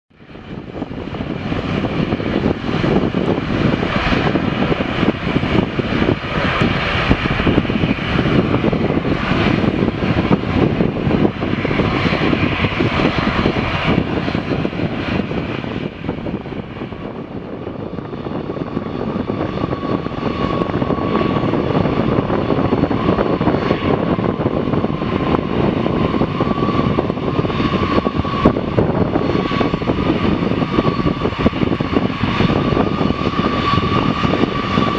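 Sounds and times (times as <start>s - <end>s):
jet engine rumble: 0.1s - 34.9s
steady engine whine: 0.1s - 34.9s.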